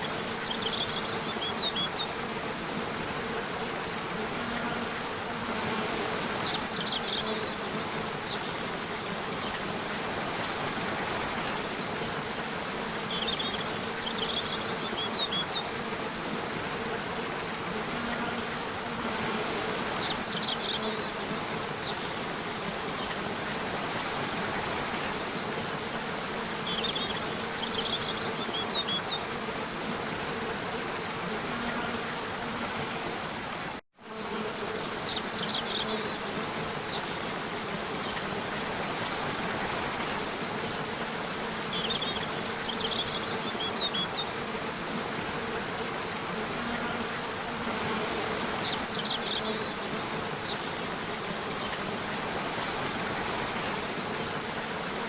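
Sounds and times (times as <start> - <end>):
insect buzz: 0.0 - 55.0
rushing hiss of running water: 0.0 - 55.0.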